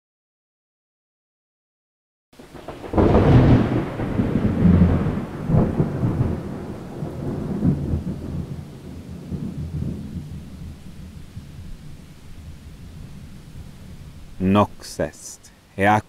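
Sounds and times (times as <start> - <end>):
thunder rumbling: 2.4 - 16.0.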